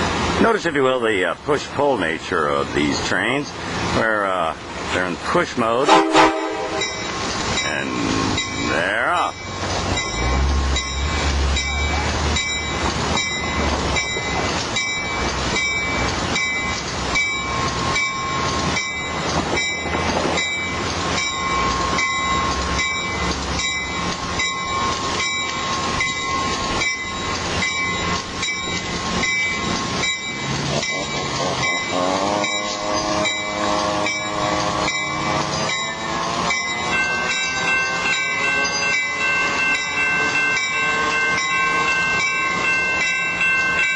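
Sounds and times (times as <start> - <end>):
deep diesel rumble: 0.0 - 43.9
train running noise: 0.0 - 43.9
low droning tones: 5.8 - 41.5
train bell ringing: 5.9 - 43.9.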